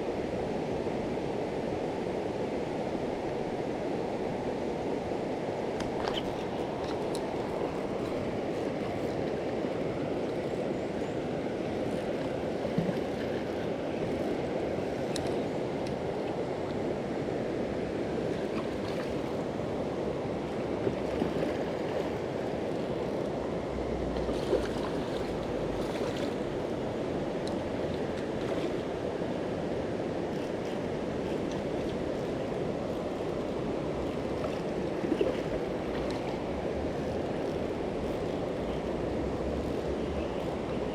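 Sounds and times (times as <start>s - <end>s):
river water over rocks: 0.0s - 40.9s.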